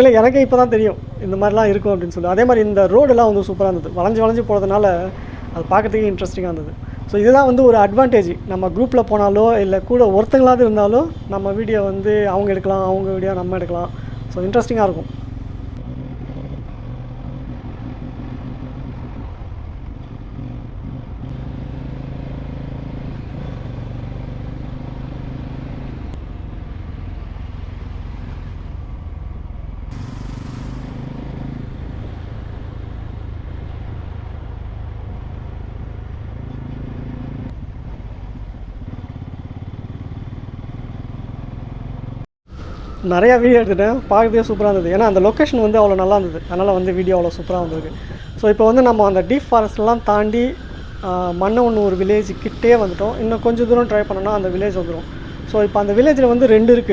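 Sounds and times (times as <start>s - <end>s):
motorcycle engine cruising: 0.0s - 56.9s
wind and road noise: 0.0s - 56.9s.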